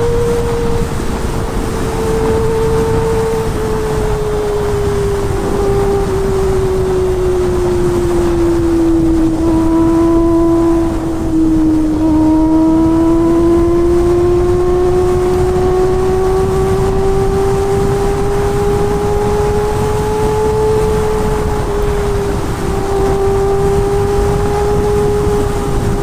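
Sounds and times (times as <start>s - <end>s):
low rumble: 0.0s - 26.0s
motorcycle engine revving high: 0.0s - 26.0s.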